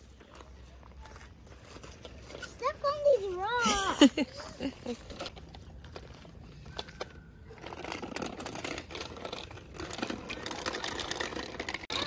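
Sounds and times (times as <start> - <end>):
bicycle rolling over asphalt: 0.0 - 12.0.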